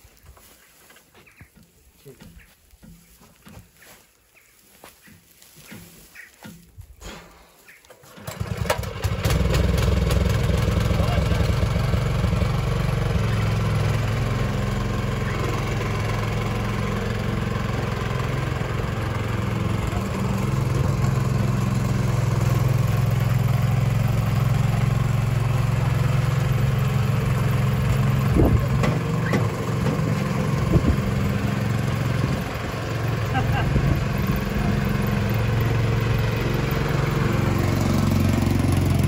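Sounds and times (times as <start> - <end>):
walking tractor engine running: 0.0 - 39.0.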